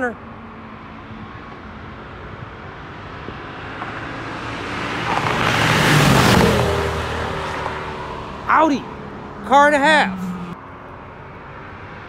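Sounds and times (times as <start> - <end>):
race cars at full throttle: 0.0 - 12.0.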